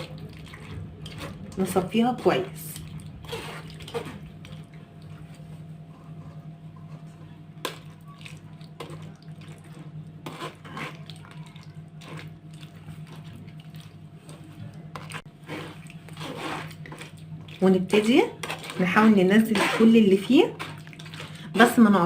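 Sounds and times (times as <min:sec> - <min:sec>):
spoon stirring pulp: 0:00.0 - 0:22.0
steady low hum: 0:00.0 - 0:22.0.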